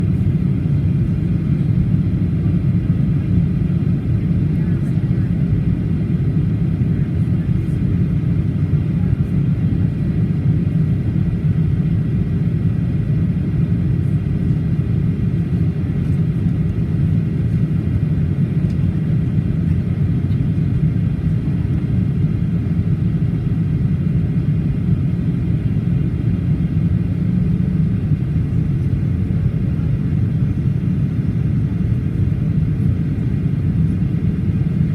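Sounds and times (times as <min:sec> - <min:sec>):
airplane cabin roar: 0:00.0 - 0:34.9.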